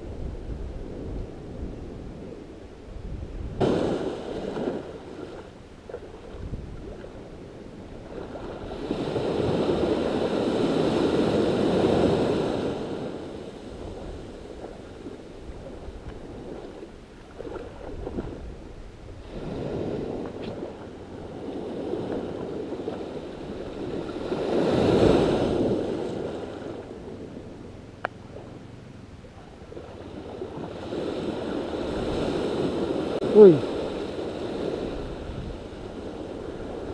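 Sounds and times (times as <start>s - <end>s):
small waves washing over sand: 3.5s - 27.6s, 29.2s - 36.9s.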